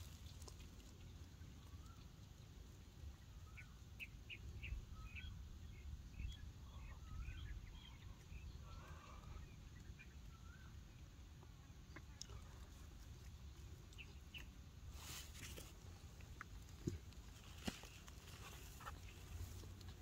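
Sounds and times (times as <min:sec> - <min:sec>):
birdsong chirps and warbling: 0:00.0 - 0:20.0.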